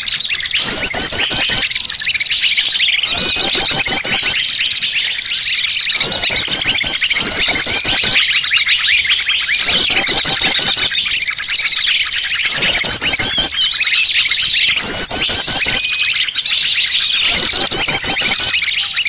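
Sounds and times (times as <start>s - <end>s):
fast high bird trill: 0.0s - 19.0s
small songbirds chirping: 0.0s - 19.0s.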